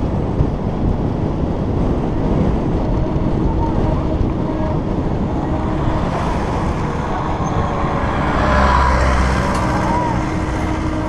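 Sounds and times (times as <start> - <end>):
bicycle road rumble: 0.0 - 11.0
wind noise: 0.0 - 11.0.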